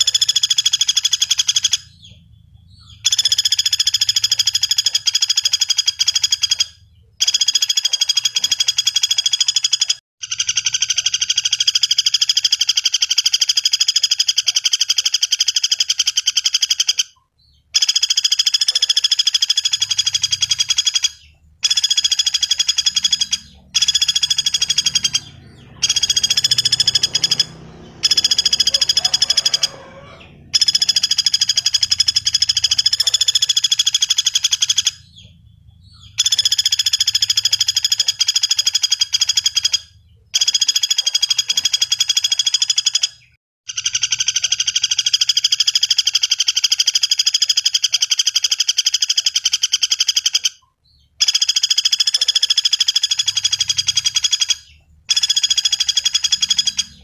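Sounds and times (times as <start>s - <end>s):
woodpecker rattling trills: 0.0s - 57.0s.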